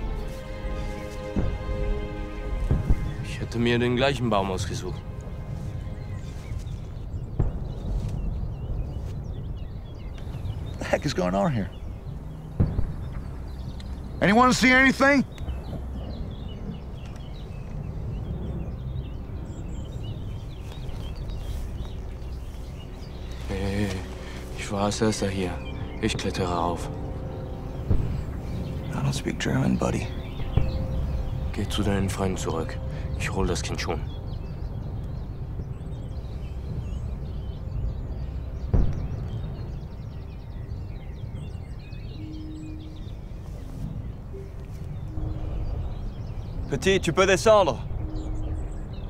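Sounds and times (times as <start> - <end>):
small birds chirping: 0.0 - 49.0
steady low rumble: 0.0 - 49.0.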